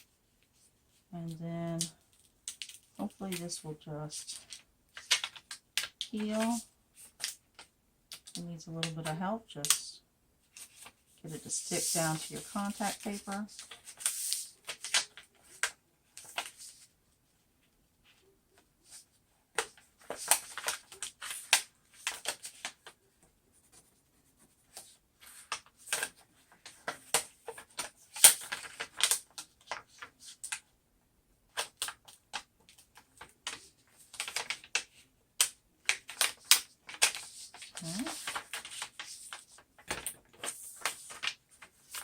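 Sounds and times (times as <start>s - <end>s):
vinyl paper scratching and crackling: 3.0s - 7.4s, 10.6s - 16.9s, 18.0s - 30.6s, 31.5s - 42.0s.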